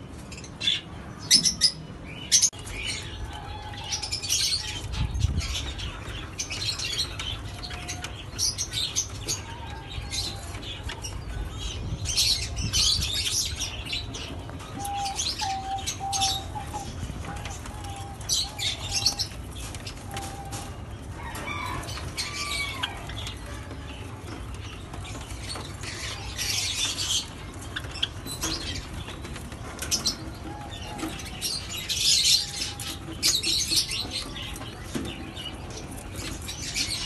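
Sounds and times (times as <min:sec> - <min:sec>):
pet birds chirping: 0:00.3 - 0:37.0.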